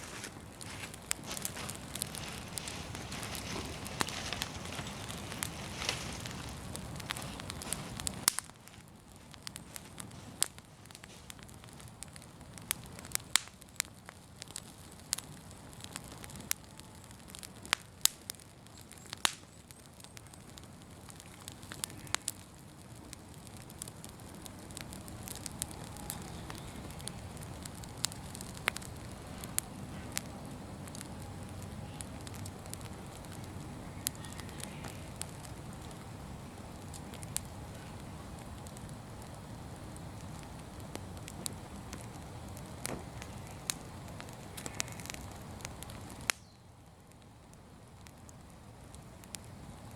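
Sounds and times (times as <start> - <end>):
open fire crackling and popping: 0.0 - 49.9.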